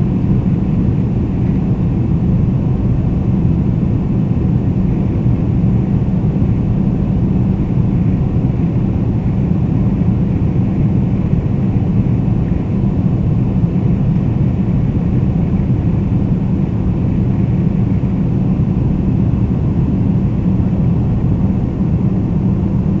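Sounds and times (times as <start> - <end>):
airliner engines rumbling: 0.0 - 23.0.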